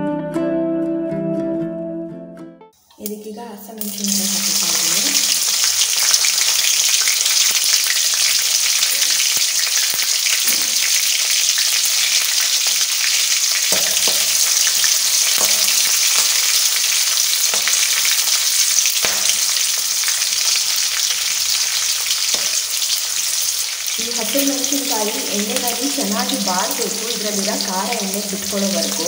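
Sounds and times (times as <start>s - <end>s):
chillies sizzling in hot oil: 2.8s - 29.0s.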